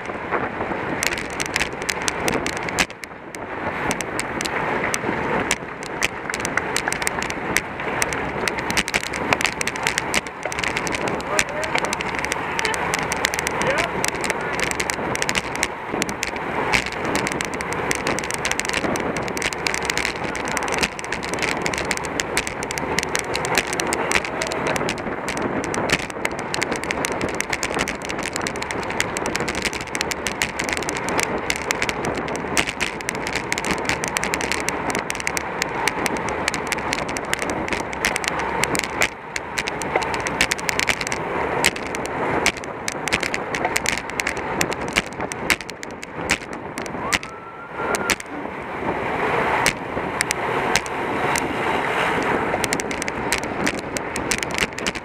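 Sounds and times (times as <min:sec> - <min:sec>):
bicycle crackling and rattling: 0:00.0 - 0:55.0
rush of air and road: 0:00.0 - 0:55.0.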